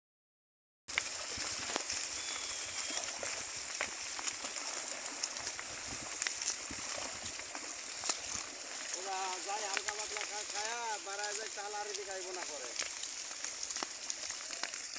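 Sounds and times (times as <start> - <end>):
pigs rustling through plants: 0.9 - 14.9
water splashing: 0.9 - 14.9.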